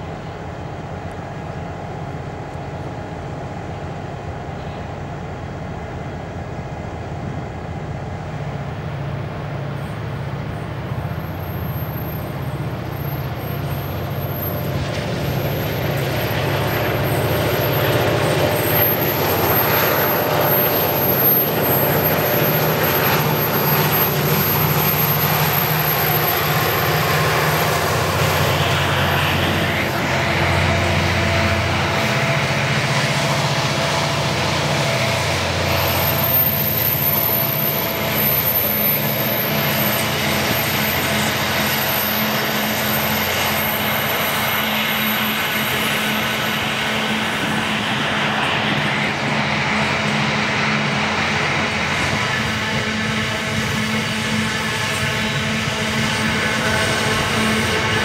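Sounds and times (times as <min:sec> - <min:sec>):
diesel locomotives working hard: 0:00.0 - 0:58.0.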